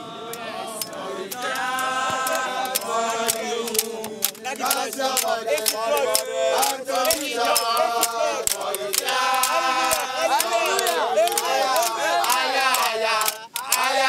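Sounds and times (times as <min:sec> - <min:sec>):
men singing a chant: 0:00.0 - 0:14.0
sharp percussive strikes: 0:00.8 - 0:14.0.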